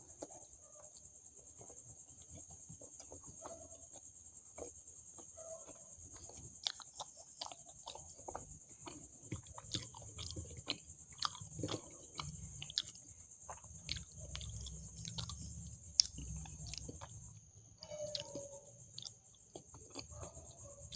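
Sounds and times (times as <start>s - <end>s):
person chewing food: 0.0s - 20.9s.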